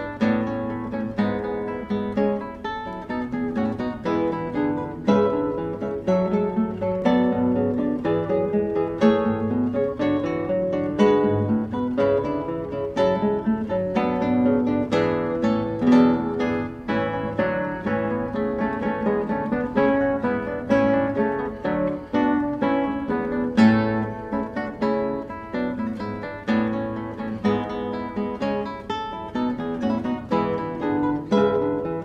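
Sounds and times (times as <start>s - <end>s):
plucked acoustic guitar: 0.0s - 32.0s.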